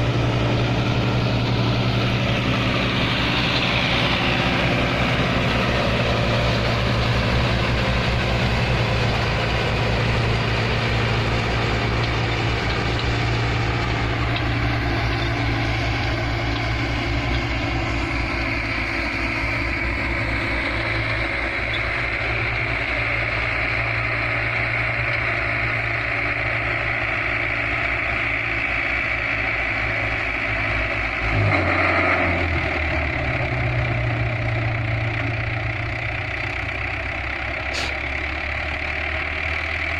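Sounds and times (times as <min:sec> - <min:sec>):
reaper machinery: 0:00.0 - 0:39.9
tractor engine running: 0:00.0 - 0:39.9.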